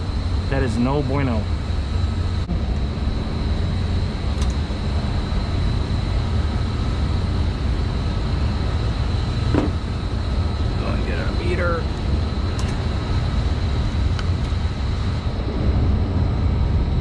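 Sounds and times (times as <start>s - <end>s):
hvac equipment droning: 0.0s - 17.0s.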